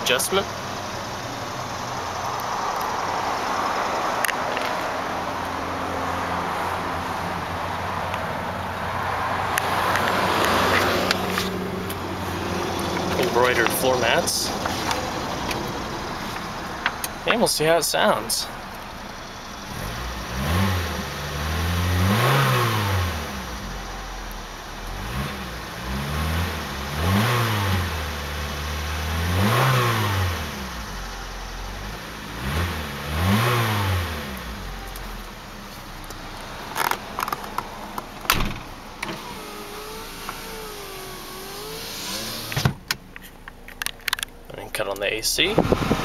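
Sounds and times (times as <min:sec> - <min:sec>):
car engine revving: 0:00.0 - 0:42.9, 0:45.4 - 0:46.0.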